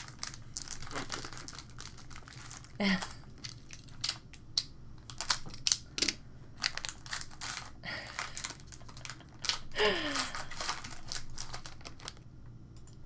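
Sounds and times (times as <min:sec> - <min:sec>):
foil wrapper crinkling and tearing: 0:00.0 - 0:04.4, 0:05.0 - 0:12.2.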